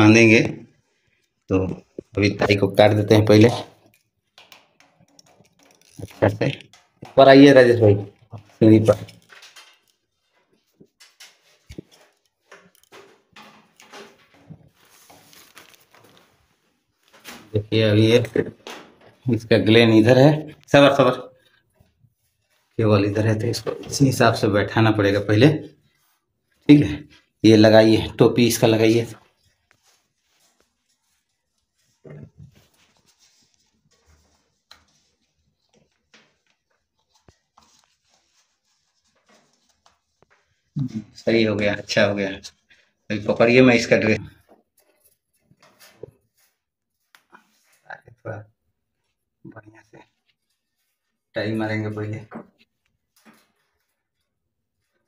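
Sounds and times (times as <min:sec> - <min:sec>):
cable rustling: 0:00.8 - 0:48.3, 0:48.9 - 0:55.0.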